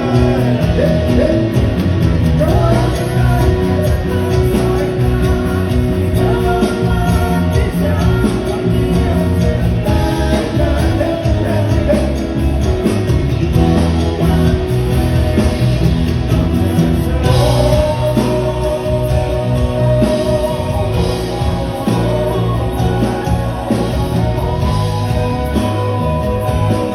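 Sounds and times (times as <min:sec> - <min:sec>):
live pop-rock band: 0:00.0 - 0:26.9
person singing: 0:00.0 - 0:26.9.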